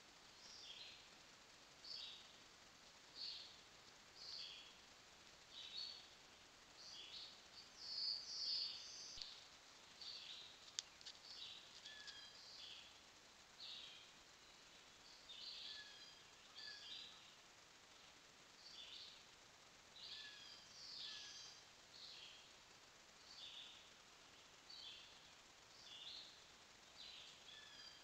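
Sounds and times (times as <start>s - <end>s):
faint steady hiss: 0.0s - 28.0s
small bird chirping: 0.3s - 1.2s, 1.8s - 2.4s, 3.1s - 4.8s, 5.4s - 13.0s, 13.6s - 19.3s, 19.9s - 28.0s.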